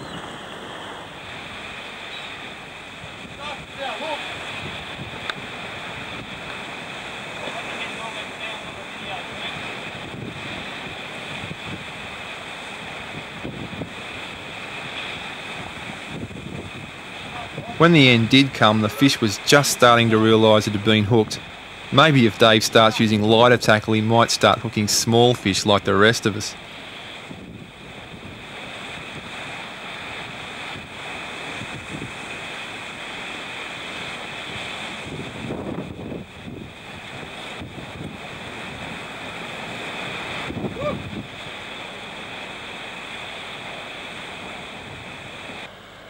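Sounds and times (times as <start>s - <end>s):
wind buffeting microphone: 0.0s - 23.1s, 25.7s - 45.7s
surf breaking against rocks: 0.0s - 45.7s.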